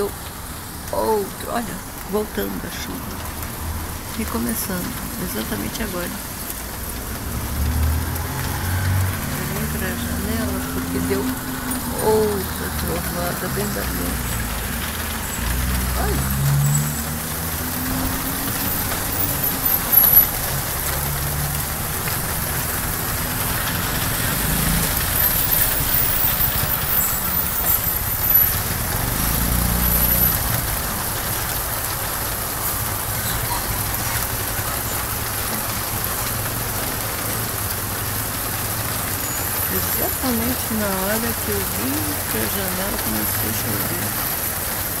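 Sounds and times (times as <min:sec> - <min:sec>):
rain falling on a street: 0:00.0 - 0:45.0.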